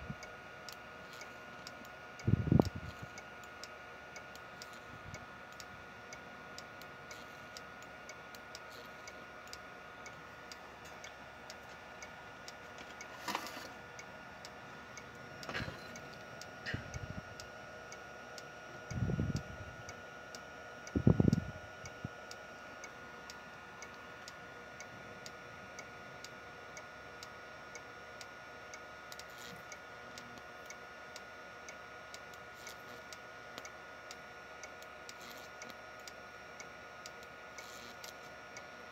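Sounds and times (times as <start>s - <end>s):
fast ticking with faint whine: 0.0s - 38.9s.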